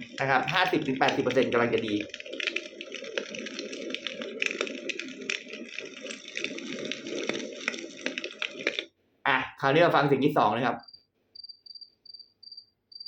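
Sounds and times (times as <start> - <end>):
campfire crackling through speaker: 0.0 - 11.1.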